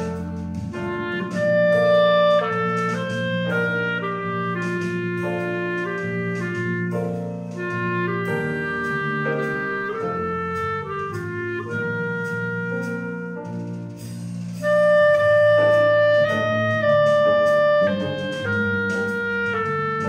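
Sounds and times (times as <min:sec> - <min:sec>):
clarinet playing jazz melody: 0:00.0 - 0:20.0.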